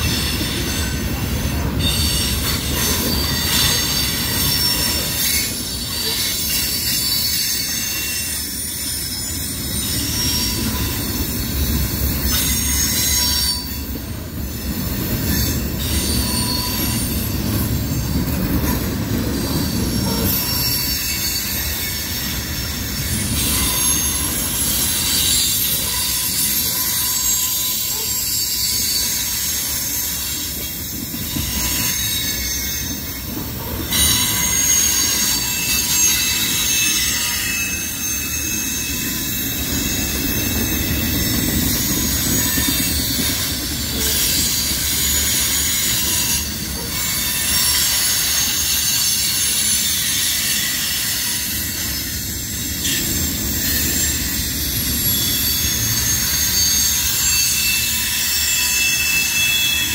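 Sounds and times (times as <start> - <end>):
low rumble of wheels on rail: 0.0 - 59.9
train wheels screeching: 0.0 - 59.9.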